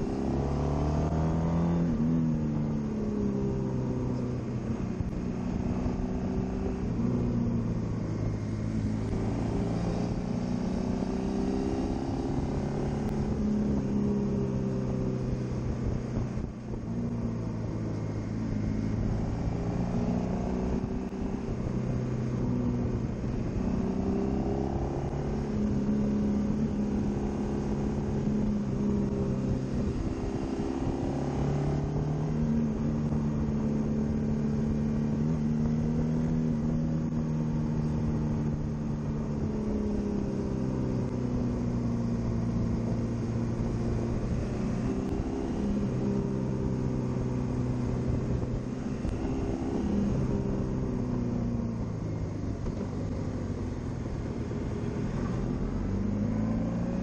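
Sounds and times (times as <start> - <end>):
motorcycle engine revving: 0.0 - 57.0
wind and road rush: 0.0 - 57.0.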